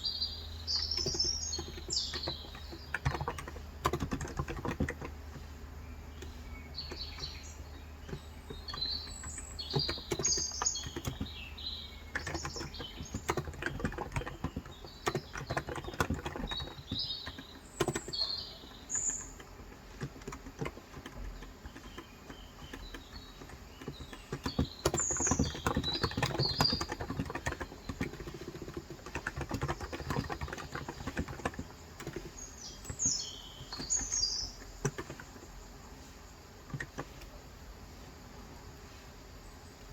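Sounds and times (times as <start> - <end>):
birds chirping: 0.0 - 39.9
fast typing on keyboard: 0.4 - 35.7, 36.6 - 37.3.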